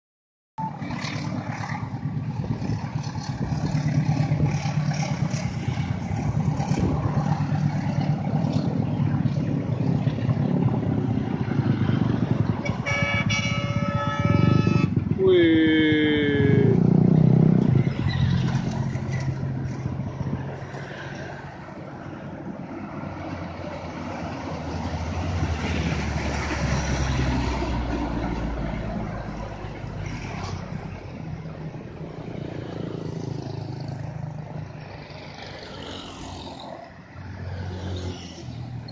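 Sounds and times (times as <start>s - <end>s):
diesel truck passing uphill: 0.6s - 38.9s
road traffic: 0.6s - 38.9s.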